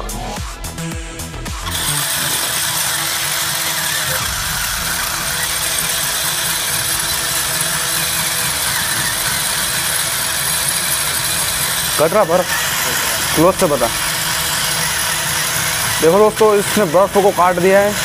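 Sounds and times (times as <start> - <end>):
electric motor whirring: 0.6 - 18.0
saw blade grinding ice: 1.6 - 18.0.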